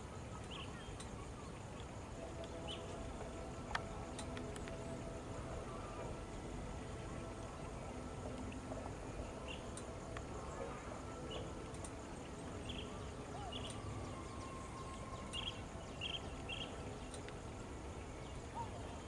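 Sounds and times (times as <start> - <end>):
small birds chirping: 0.0 - 5.0, 6.8 - 19.0
low outdoor rumble: 0.0 - 19.0.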